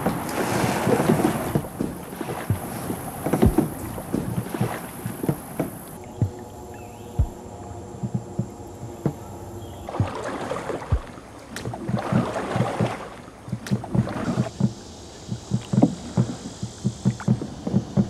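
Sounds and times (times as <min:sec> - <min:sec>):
water splashing along canoe hull: 0:00.0 - 0:18.0.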